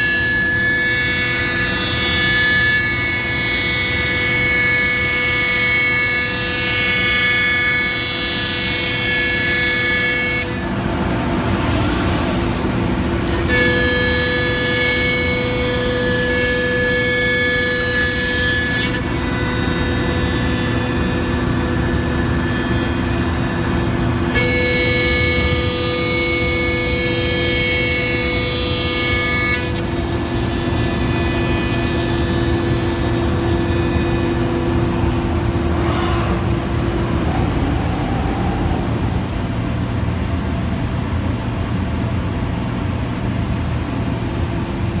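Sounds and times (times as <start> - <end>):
router machine drone and whine: 0.0 - 45.0.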